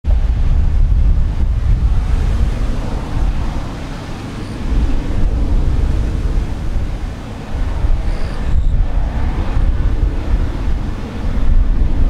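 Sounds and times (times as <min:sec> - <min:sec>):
wind buffeting microphone: 0:00.0 - 0:12.0
jet engines roaring: 0:00.1 - 0:12.0.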